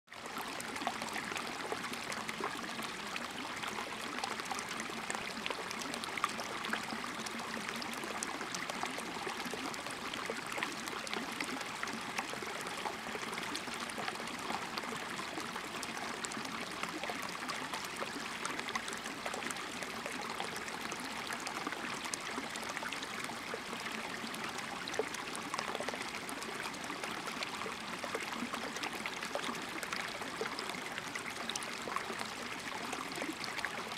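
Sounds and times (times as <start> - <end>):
stream trickling over stones: 0.1 - 33.9.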